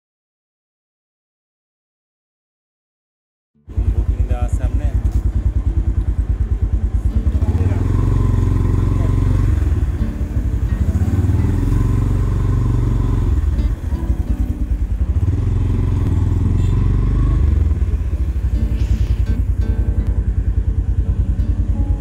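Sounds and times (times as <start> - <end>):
motorcycle engine running: 3.6 - 22.0.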